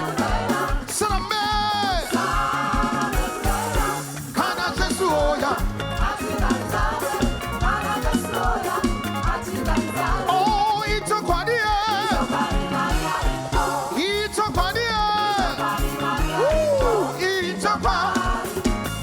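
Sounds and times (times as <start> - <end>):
upbeat gospel music: 0.0 - 19.0.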